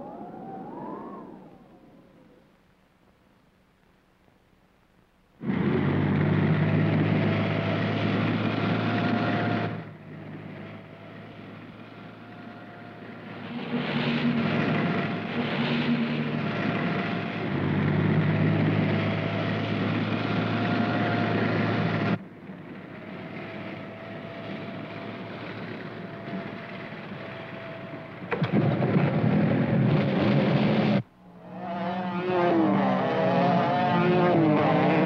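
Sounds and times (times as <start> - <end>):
motorcycle engines: 5.4 - 35.0
truck engines droning: 5.4 - 35.0.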